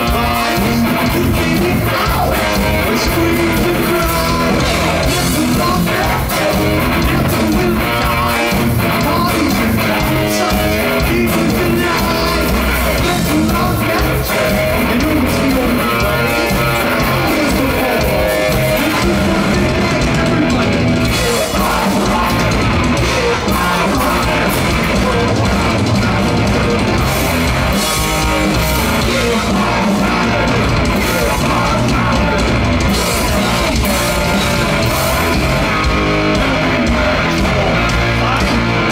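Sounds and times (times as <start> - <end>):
distorted electric guitar: 0.0 - 38.9
drum kit: 0.0 - 38.9
person singing: 0.0 - 38.9.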